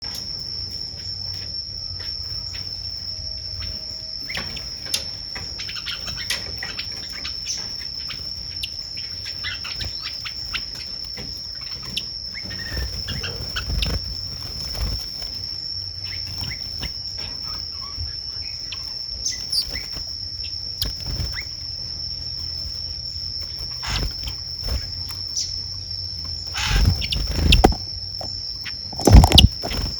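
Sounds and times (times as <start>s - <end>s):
insect droning: 0.0s - 29.9s
birds chirping: 2.5s - 29.9s.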